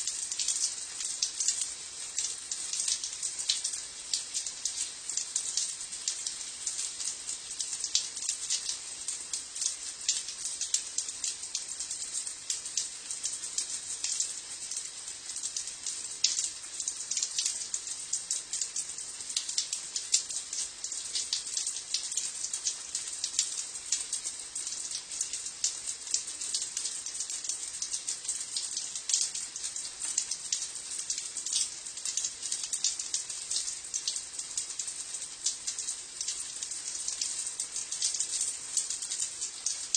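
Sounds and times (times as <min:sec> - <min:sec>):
shower water on stone floor: 0:00.0 - 0:39.9.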